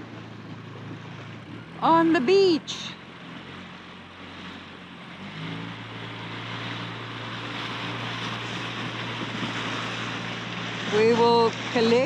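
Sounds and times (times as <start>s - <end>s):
outboard motor running: 0.0s - 12.0s
water rushing past hull: 0.0s - 12.0s.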